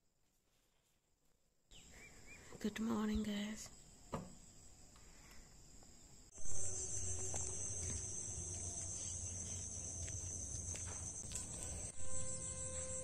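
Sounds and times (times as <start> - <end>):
insects trilling: 1.7 - 13.0.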